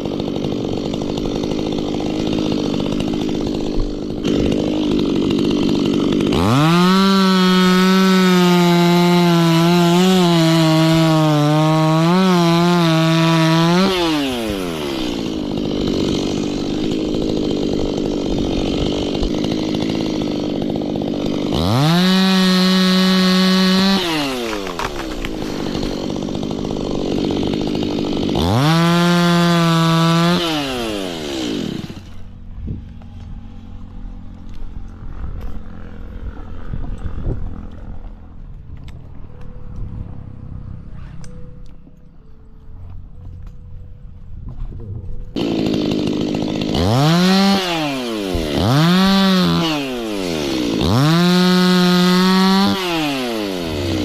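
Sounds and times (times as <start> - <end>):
chainsaw revving and idling: 0.0 - 39.9, 45.3 - 54.0.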